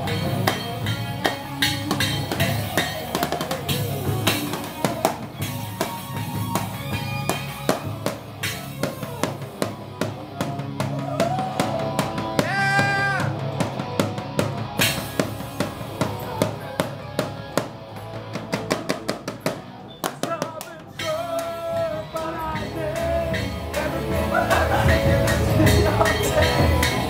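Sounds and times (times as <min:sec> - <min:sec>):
drum kit beat: 0:00.0 - 0:27.0
electric guitar: 0:00.0 - 0:27.0.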